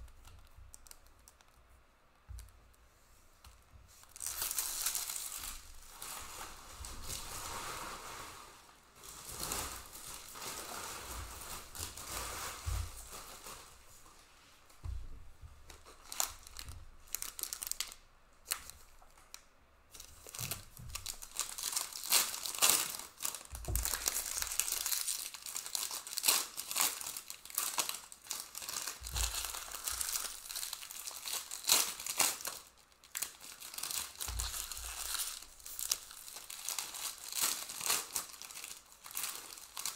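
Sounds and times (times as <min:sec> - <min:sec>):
foil wrappers crinkling and tearing: 0:04.0 - 0:13.9, 0:15.7 - 0:19.2, 0:19.9 - 0:39.9.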